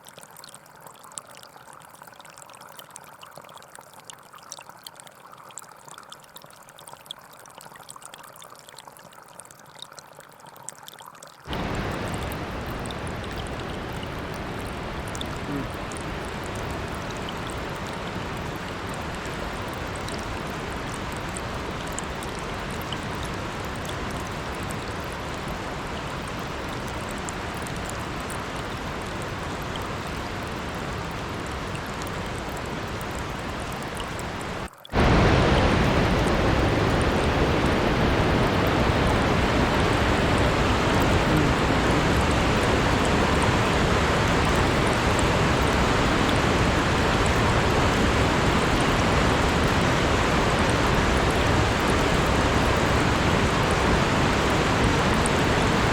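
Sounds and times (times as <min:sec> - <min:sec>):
creek water flowing: 0:00.0 - 0:55.9.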